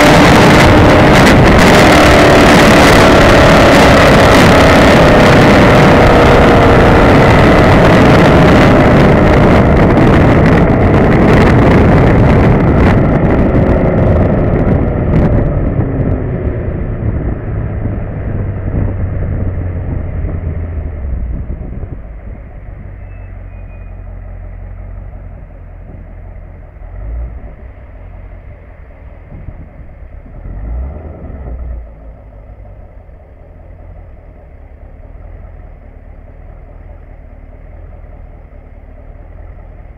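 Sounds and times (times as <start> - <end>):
wind rush: 0.0 - 34.4
car exhaust burble: 0.0 - 39.9.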